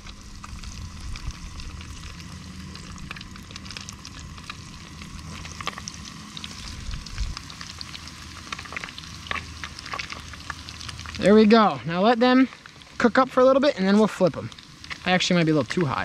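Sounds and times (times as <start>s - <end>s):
fish sizzling in hot oil: 0.0s - 16.0s
steady low hum: 0.0s - 16.0s.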